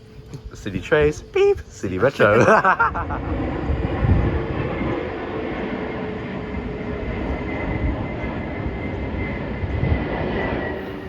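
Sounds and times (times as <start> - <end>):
electric train rumbling past: 0.0 - 11.0.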